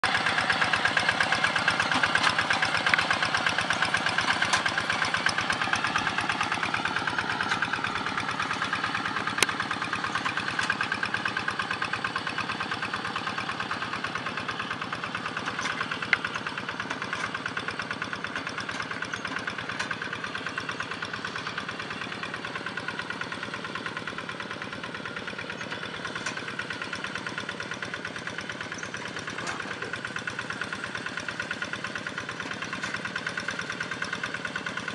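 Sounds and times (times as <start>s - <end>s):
tractor engine chugging: 0.0s - 34.9s.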